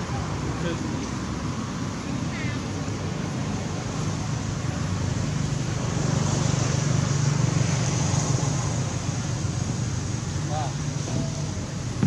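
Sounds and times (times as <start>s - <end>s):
low outdoor rumble with hiss: 0.0s - 12.0s.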